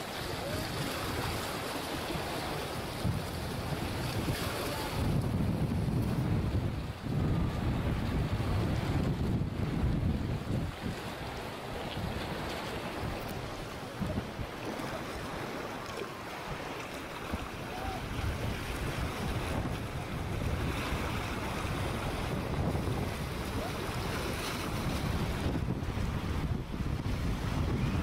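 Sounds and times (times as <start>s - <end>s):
wind buffeting microphone: 0.0s - 15.8s, 16.4s - 28.0s
sea surf: 0.0s - 28.0s.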